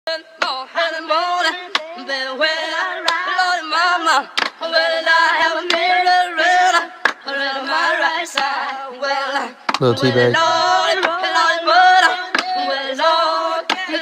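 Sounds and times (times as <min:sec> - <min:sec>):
hip-hop beat with sung vocal sample: 0:00.1 - 0:14.0.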